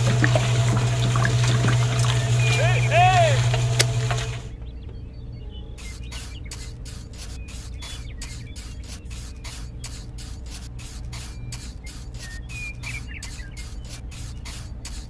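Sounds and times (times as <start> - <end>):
quick regular ticking: 0.0 - 4.5, 5.8 - 15.0
small electric motor running: 0.0 - 4.5, 6.2 - 15.0.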